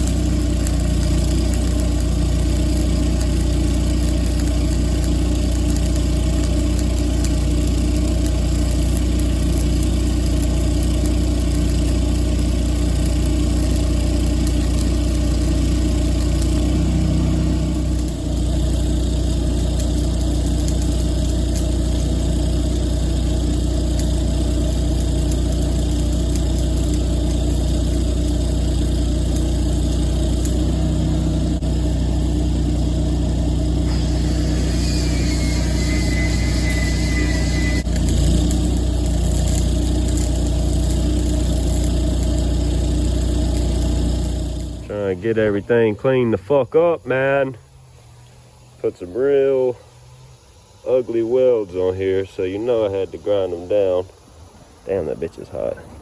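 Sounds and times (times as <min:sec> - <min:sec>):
high hiss: 0:00.0 - 0:30.8, 0:31.6 - 0:56.0
engine running with low hum: 0:00.0 - 0:56.0.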